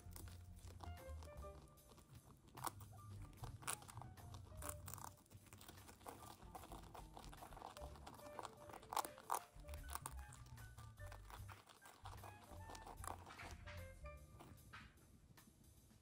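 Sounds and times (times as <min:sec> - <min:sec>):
guinea pigs crunching pellets: 0:00.0 - 0:15.0
faint music: 0:00.0 - 0:16.0.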